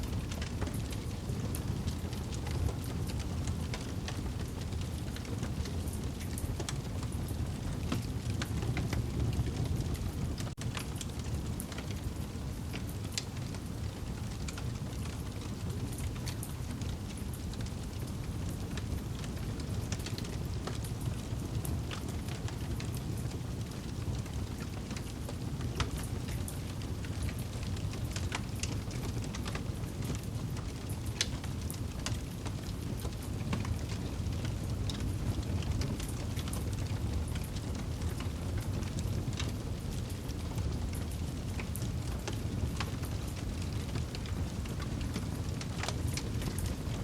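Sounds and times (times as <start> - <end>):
burning wood crackling and popping: 0.0 - 47.0
low rumble of flames: 0.0 - 47.0.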